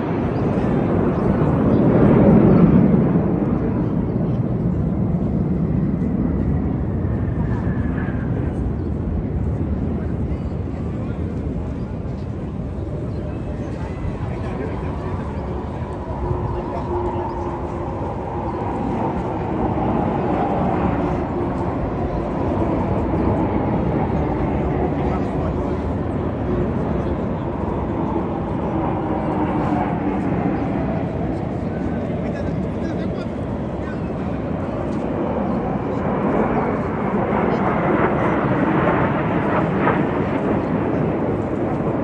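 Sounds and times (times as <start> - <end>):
military aircraft flying over: 0.0 - 42.0.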